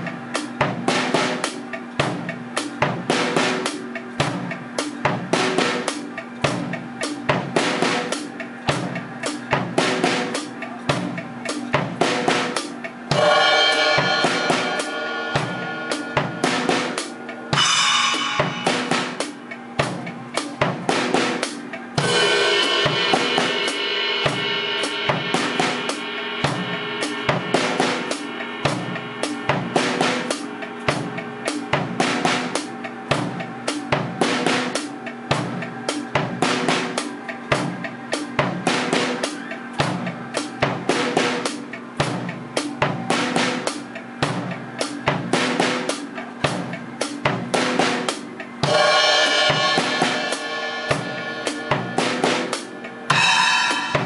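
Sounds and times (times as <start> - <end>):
crash cymbals: 0.0 - 54.0
drum kit groove: 0.0 - 54.0.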